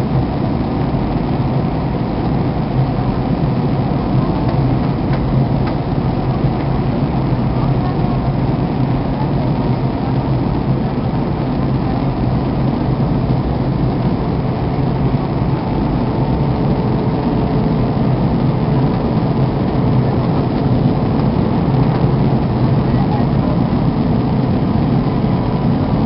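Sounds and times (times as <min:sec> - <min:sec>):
engine and airflow roar: 0:00.0 - 0:26.0
faint whine: 0:00.0 - 0:26.0.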